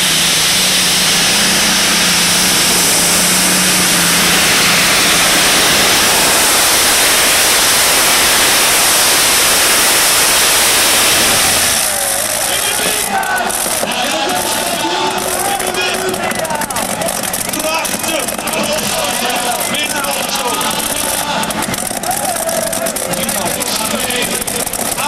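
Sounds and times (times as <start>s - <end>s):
loud engines at full power: 0.0s - 25.0s.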